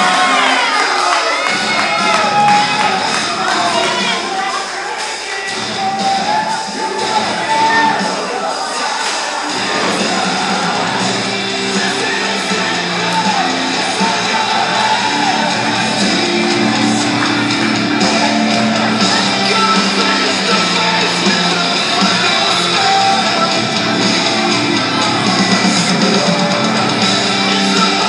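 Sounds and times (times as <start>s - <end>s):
rock music over sound system: 0.0s - 28.0s.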